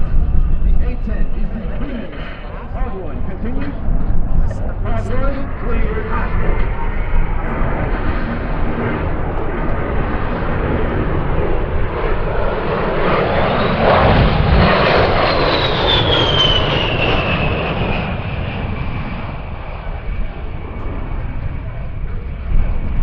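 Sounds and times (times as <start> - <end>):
high jet engine whine: 0.0 - 23.0
jet aircraft passing by: 0.0 - 23.0.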